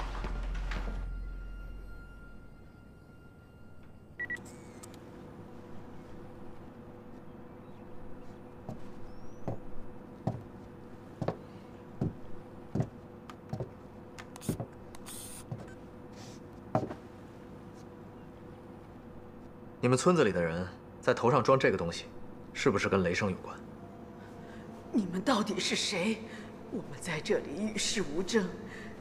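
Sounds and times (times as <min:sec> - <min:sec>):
low hum: 0:00.0 - 0:19.8, 0:20.7 - 0:29.0.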